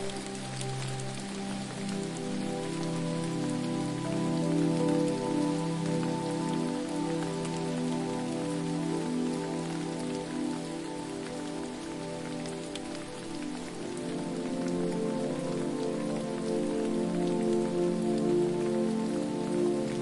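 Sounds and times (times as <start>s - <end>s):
falling water patter: 0.0s - 20.0s.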